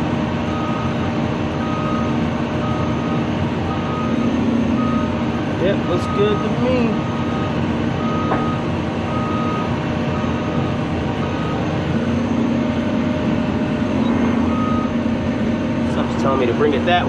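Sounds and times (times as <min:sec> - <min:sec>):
excavator engine humming: 0:00.0 - 0:17.0
travel alarm beeping: 0:00.5 - 0:01.0, 0:01.6 - 0:15.1.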